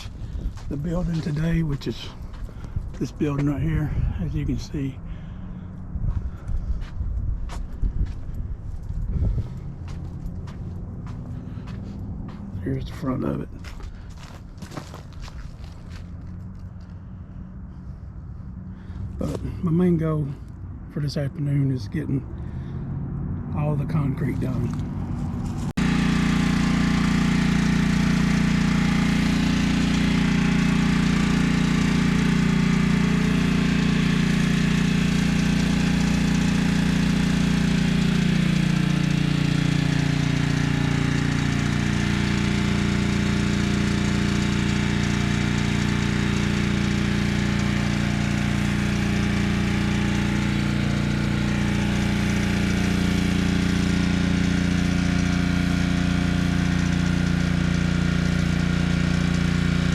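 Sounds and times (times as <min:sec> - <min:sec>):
small gas engine running: 0:00.0 - 0:20.7, 0:22.2 - 0:59.9.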